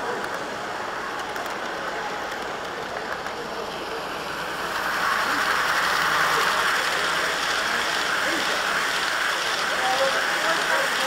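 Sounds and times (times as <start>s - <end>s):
model train wheels on rail: 0.0s - 11.0s.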